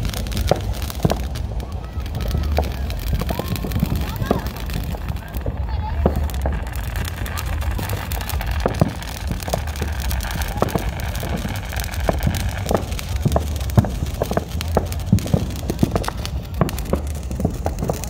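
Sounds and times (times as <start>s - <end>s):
fireworks popping and crackling: 0.0s - 18.0s
steady low rumble: 0.0s - 18.0s.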